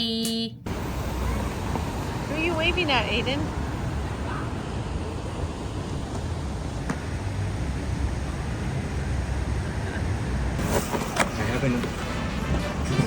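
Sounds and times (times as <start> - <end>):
vehicle noise rumble and hiss: 0.7 - 13.0.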